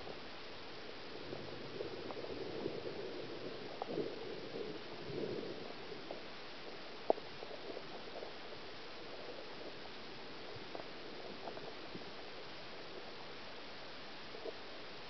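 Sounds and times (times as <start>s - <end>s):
faint ticks and pops: 0.0s - 14.9s.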